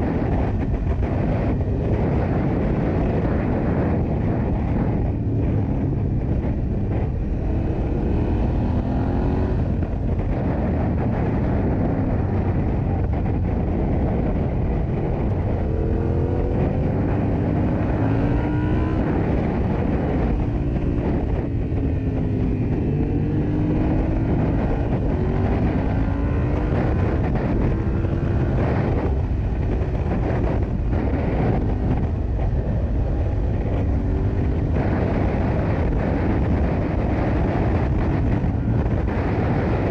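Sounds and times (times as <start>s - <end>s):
heavy wind rumble: 0.0s - 39.9s
motorcycle engine revving: 0.0s - 39.9s.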